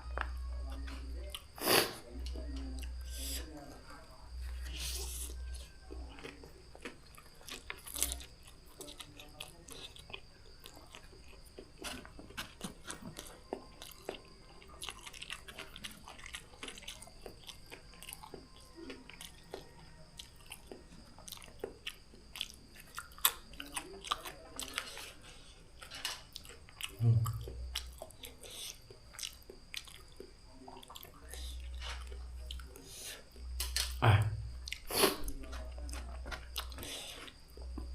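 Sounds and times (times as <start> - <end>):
chewing noodles: 4.3 - 33.9, 34.6 - 37.9.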